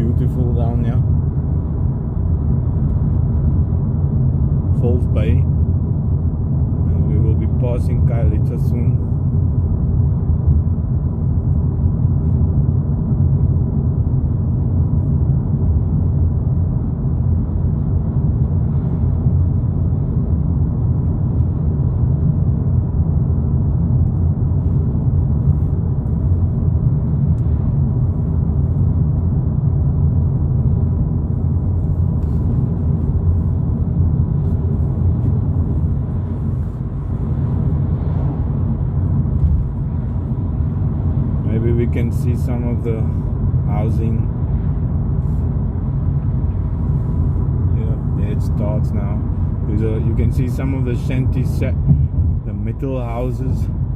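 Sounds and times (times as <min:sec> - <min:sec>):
car engine and tyre rumble: 0:00.0 - 0:53.9.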